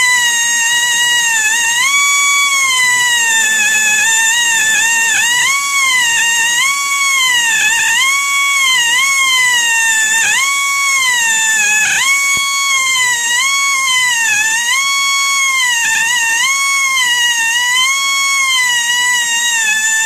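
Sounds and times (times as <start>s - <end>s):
rotary tool grinding whine: 0.0s - 20.0s.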